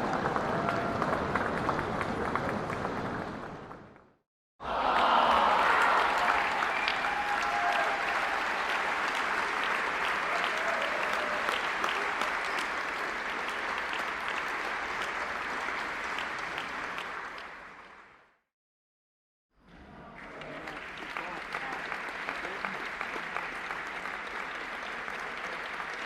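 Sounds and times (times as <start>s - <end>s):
crowd applauding: 0.0s - 18.3s, 19.9s - 26.0s.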